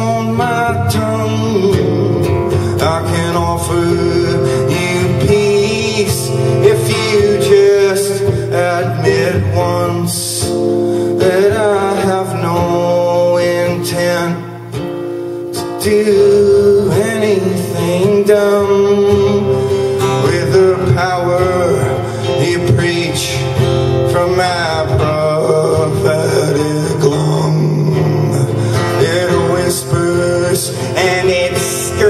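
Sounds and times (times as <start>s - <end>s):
acoustic guitar strumming: 0.0s - 32.0s
man singing: 0.0s - 32.0s.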